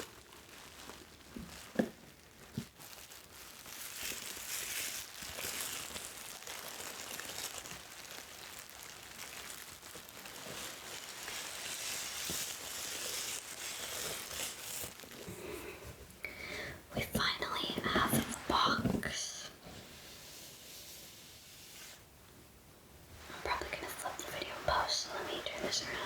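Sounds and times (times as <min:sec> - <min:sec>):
bubble wrap crinkling: 0:00.0 - 0:16.2, 0:16.9 - 0:22.1, 0:23.2 - 0:26.0.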